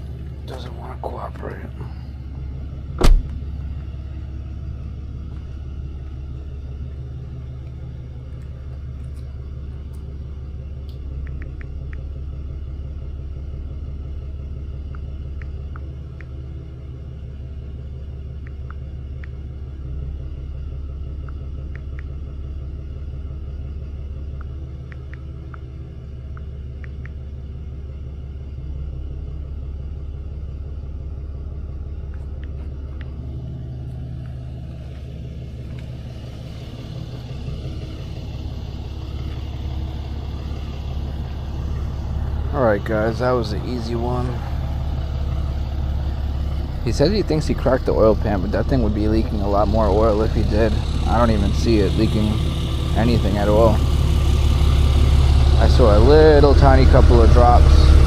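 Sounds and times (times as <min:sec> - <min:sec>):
tow truck engine rumble: 0:00.0 - 0:58.0.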